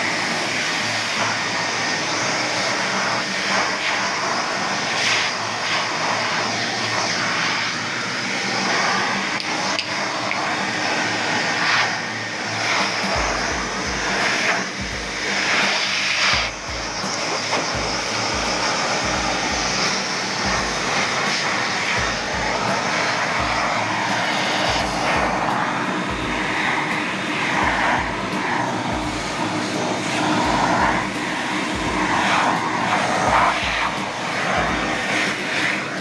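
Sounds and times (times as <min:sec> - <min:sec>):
vacuum cleaner sucking powder: 0:00.0 - 0:36.0.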